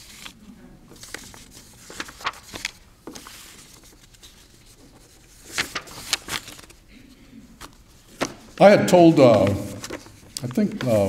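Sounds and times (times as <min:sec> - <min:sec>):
paper rustling: 0:00.0 - 0:06.9, 0:07.6 - 0:11.0.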